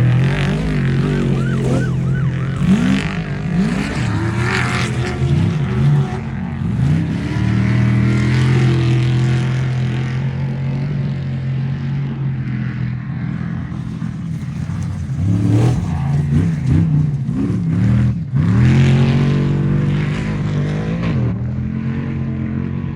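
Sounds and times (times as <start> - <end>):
truck engine revving: 0.0 - 10.5, 13.4 - 21.9.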